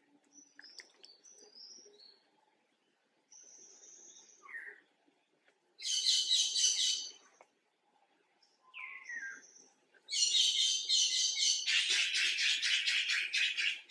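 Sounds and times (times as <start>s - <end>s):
songbird singing: 0.0s - 13.9s.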